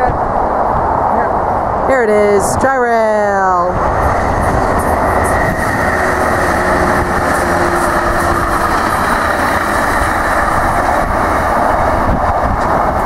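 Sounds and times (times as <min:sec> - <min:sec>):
diesel locomotive passing: 0:00.0 - 0:13.0
train wheels rushing on rails: 0:00.0 - 0:13.0.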